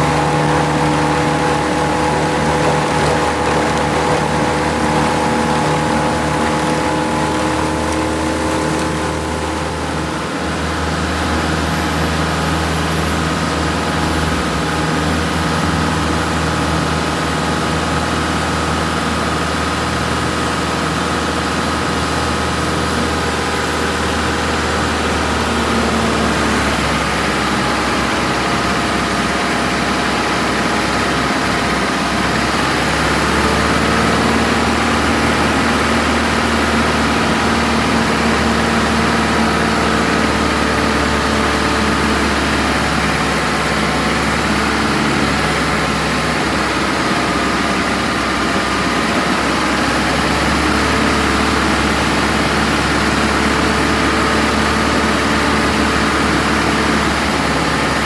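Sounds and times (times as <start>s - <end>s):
heavy machine engine running: 0.0s - 58.0s.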